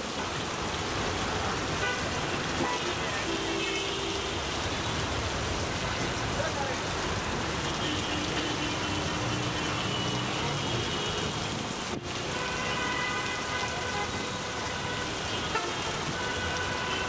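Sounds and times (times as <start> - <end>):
rain pouring on wet street: 0.0 - 17.0.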